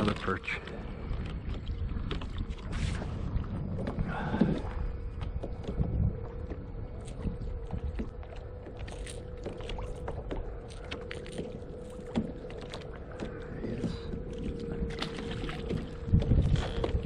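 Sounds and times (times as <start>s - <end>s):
choppy water splashes: 0.0s - 17.0s
wind rumble on microphone: 0.0s - 17.0s.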